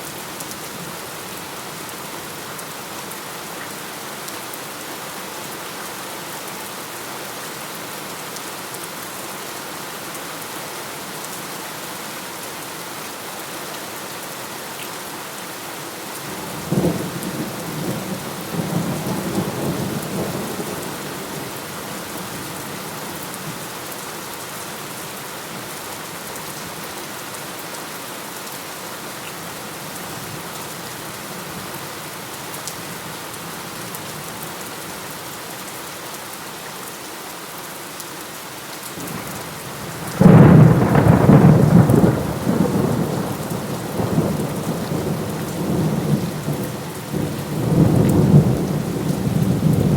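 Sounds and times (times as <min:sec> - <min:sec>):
steady rain: 0:00.0 - 0:49.9.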